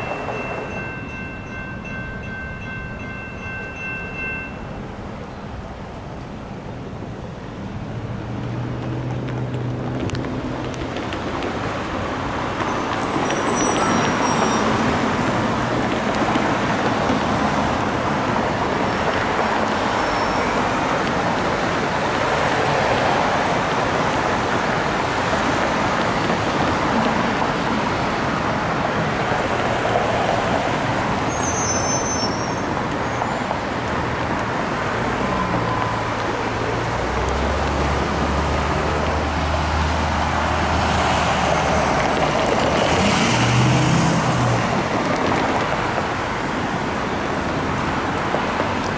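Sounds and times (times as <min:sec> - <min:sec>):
cars and trucks driving past: 0:00.0 - 0:48.9.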